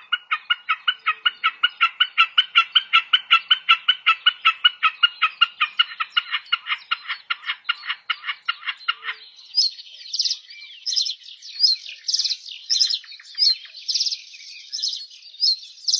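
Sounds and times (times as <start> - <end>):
high-pitched bird chirping: 0.0 - 15.9.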